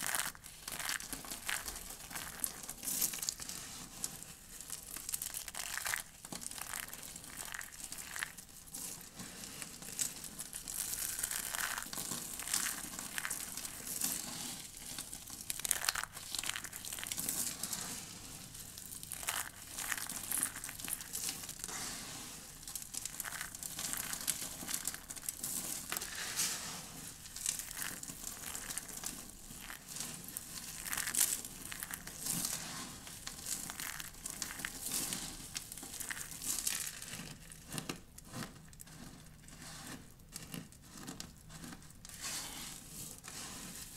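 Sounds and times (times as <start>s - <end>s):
dry soap crackling in hands: 0.0s - 43.9s.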